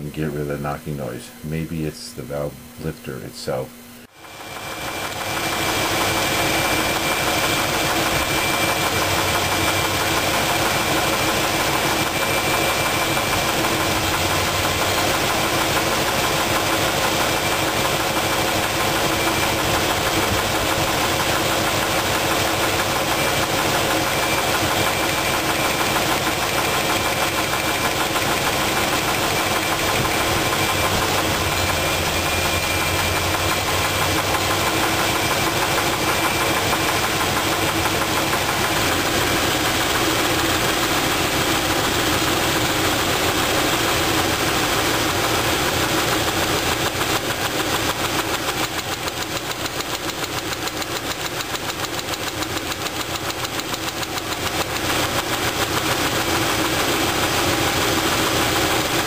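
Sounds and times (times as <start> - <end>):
engine idling with rapid knock: 4.1 - 59.0.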